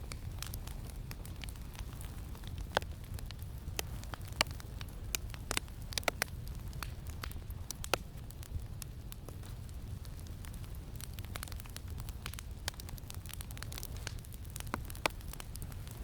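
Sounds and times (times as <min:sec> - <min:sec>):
campfire crackling and popping: 0:00.0 - 0:16.0
low rumble of wind: 0:00.0 - 0:16.0.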